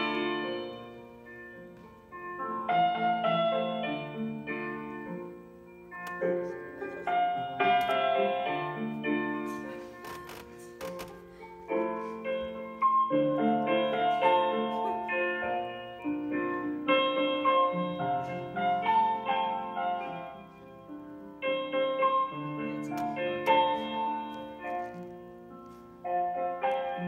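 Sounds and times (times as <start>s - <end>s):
piano melody over chords: 0.0s - 27.0s.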